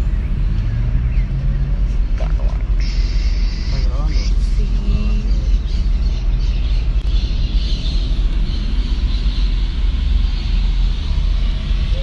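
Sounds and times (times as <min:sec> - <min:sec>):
car road noise from inside cabin: 0:00.0 - 0:12.0.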